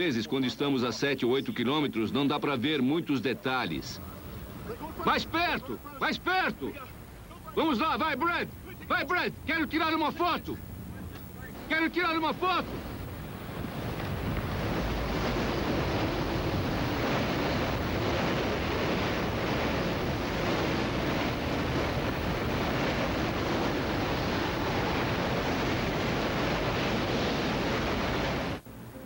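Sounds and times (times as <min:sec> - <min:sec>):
storm wind buffeting microphone: 0:03.6 - 0:29.0.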